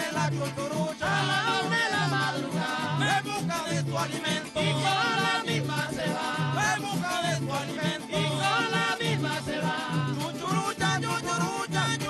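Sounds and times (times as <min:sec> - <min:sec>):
maracas: 0:00.0 - 0:12.0
strummed small guitars: 0:00.0 - 0:12.0
voices singing: 0:00.0 - 0:12.0.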